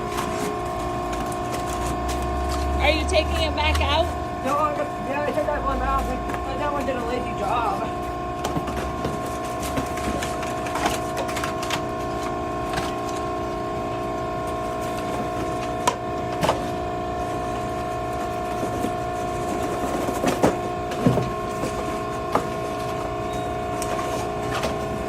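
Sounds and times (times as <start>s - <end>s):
hydraulic unit whining: 0.0s - 25.0s.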